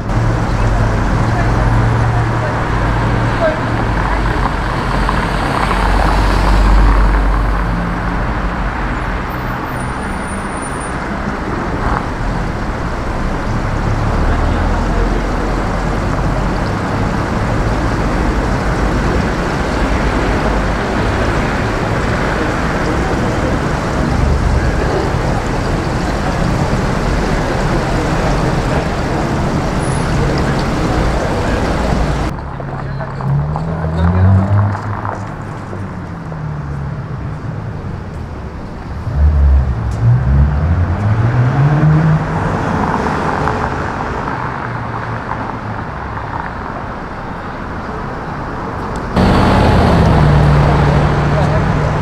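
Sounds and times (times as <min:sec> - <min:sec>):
city street traffic: 0:00.0 - 0:52.0.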